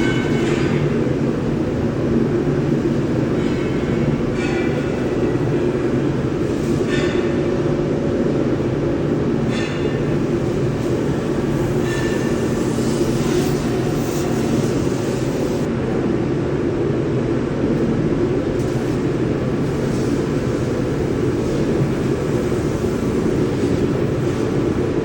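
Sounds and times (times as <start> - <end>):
droning hum: 0.0 - 25.0
industrial furnace roar: 0.0 - 25.0.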